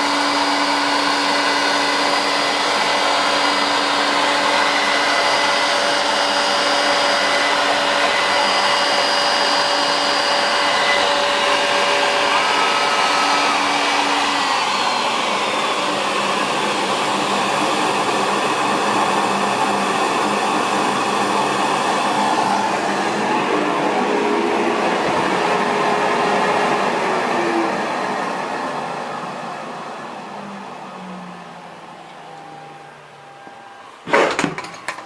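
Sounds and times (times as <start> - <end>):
whining tones changing pitch: 0.0 - 34.0
router high whir: 0.0 - 34.1.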